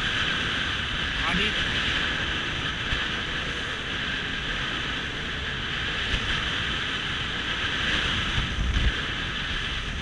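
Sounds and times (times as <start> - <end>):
low engine rumble: 0.0 - 10.0
wind and water rushing: 0.0 - 10.0.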